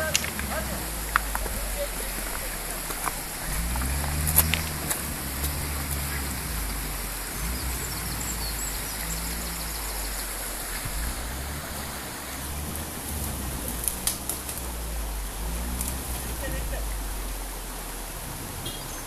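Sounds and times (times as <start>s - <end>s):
car engine humming: 0.0s - 19.0s
stream rushing: 0.0s - 19.0s.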